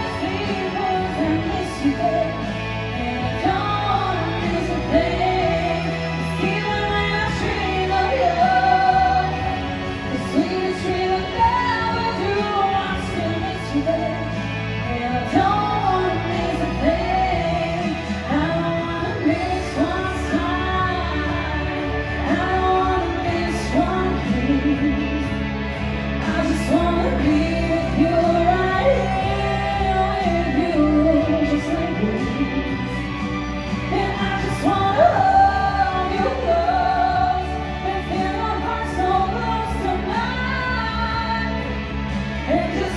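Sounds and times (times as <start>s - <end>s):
person singing with vibrato: 0.0s - 42.9s
steady bass line: 0.0s - 42.9s.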